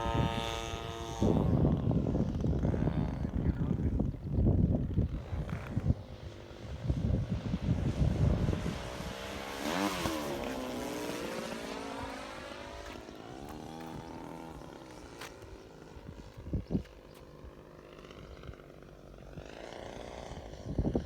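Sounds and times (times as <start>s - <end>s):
model plane engine buzzing: 0.0s - 21.0s
wind buffeting microphone: 0.0s - 21.0s.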